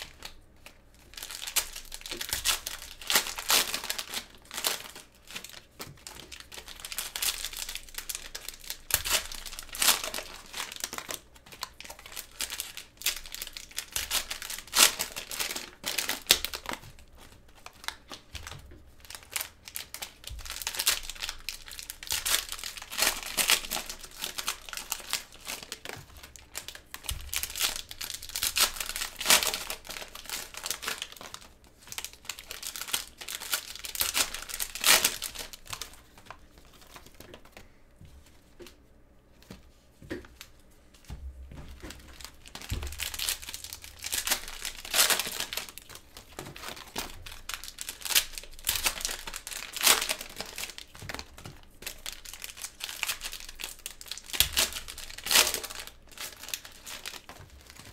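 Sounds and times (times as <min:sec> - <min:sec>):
cellophane wrappers crinkling and tearing: 0:00.0 - 0:37.7, 0:40.3 - 0:57.9.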